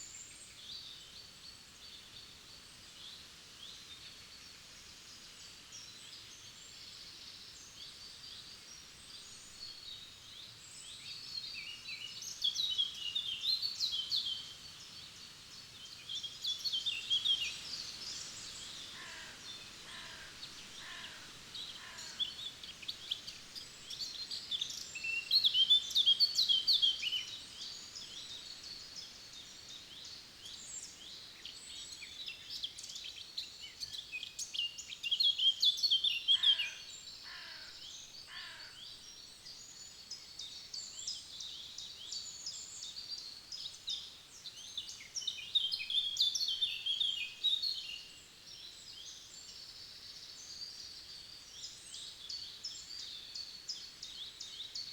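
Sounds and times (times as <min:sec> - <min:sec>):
faint background hiss: 0:00.0 - 0:54.9
songbirds twittering: 0:00.0 - 0:54.9.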